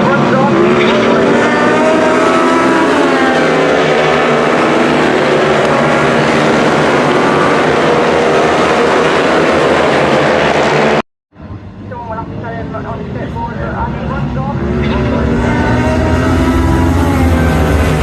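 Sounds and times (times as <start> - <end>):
motorbike engines at high revs: 0.0 - 11.0, 14.0 - 18.0.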